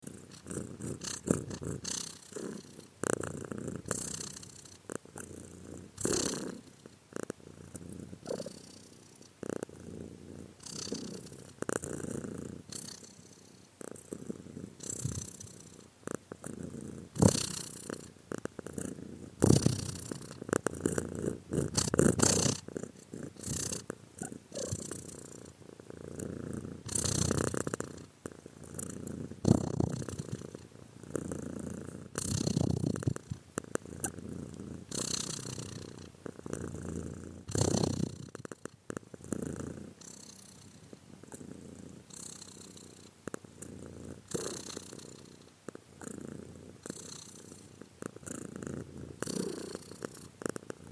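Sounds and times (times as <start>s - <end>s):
cat purring: 0.0s - 50.9s.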